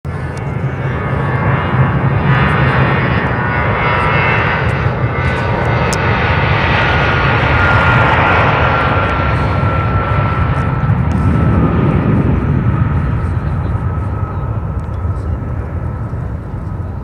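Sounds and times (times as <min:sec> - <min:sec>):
jet engines at takeoff power: 0:00.1 - 0:17.0.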